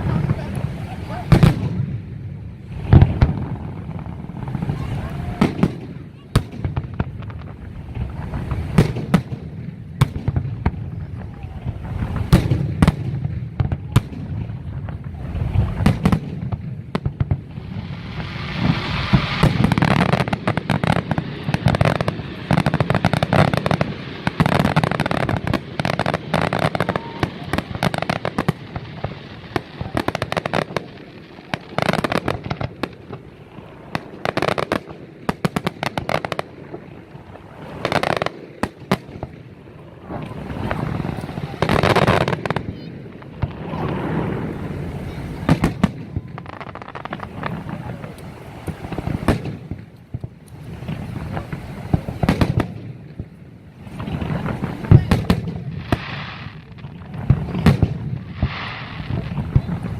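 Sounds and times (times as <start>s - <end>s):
fireworks crackling: 0.0s - 59.9s.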